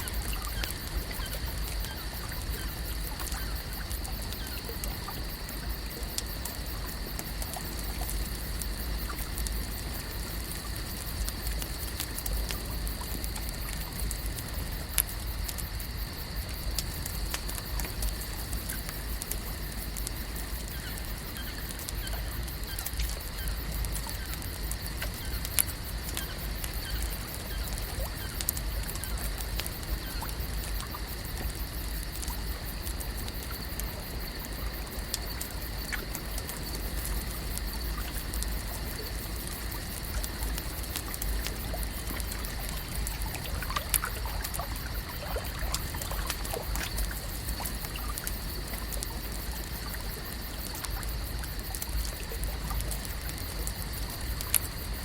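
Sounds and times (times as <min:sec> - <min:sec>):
small ticks: 0:00.0 - 0:55.0
water trickling and lapping: 0:00.0 - 0:55.0.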